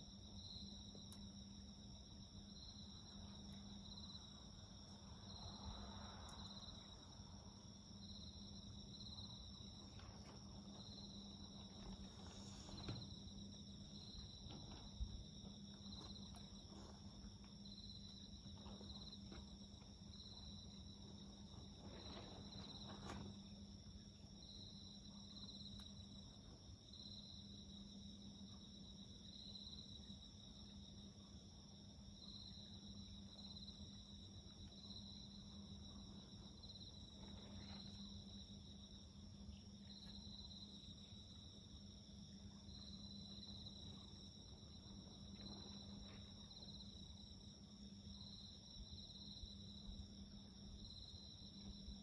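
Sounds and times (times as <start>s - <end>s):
insects chirping: 0.0s - 52.0s
low steady hum: 0.0s - 52.0s.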